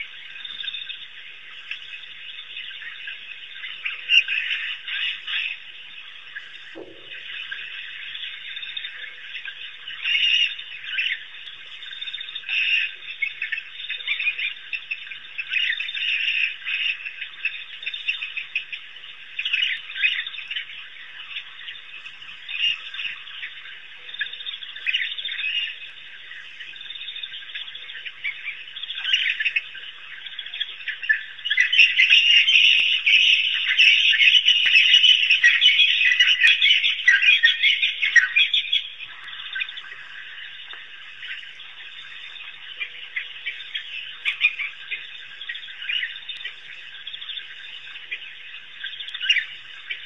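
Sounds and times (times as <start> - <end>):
animal chirping and twittering: 0.0 - 50.0.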